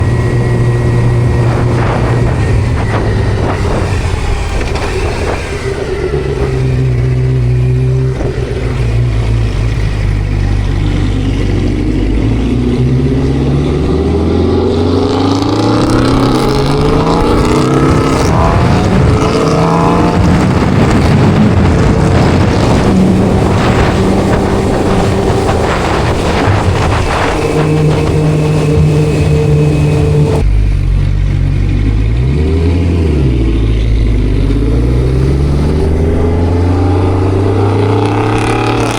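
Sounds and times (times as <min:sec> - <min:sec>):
car engine: 0:00.0 - 0:38.9
motorcycle engine: 0:00.0 - 0:38.9.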